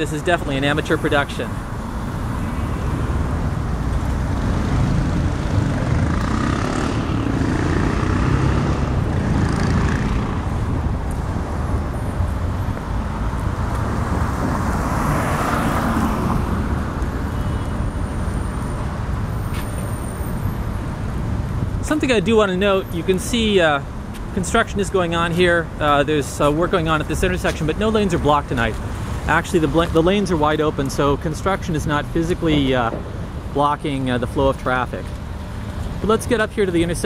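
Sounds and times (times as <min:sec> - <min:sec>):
car engines and tyres rumbling: 0:00.0 - 0:37.0
vehicles passing close: 0:00.0 - 0:37.0.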